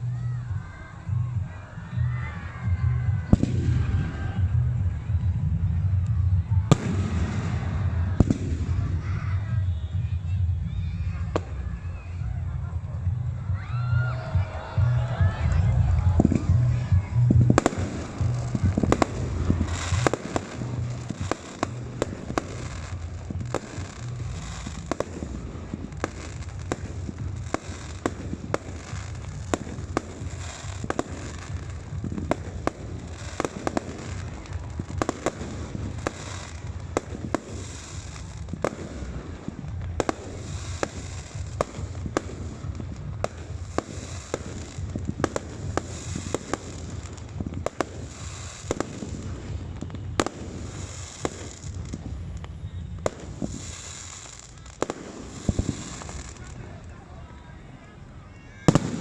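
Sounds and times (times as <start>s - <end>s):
fireworks bangs and pops: 0.0s - 57.2s, 58.7s - 59.0s
fireworks rumble and crackle: 0.0s - 59.0s.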